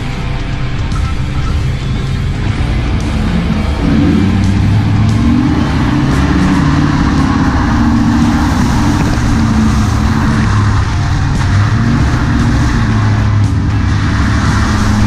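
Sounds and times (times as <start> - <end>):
background music: 0.0 - 15.0
truck engine running: 0.0 - 15.0.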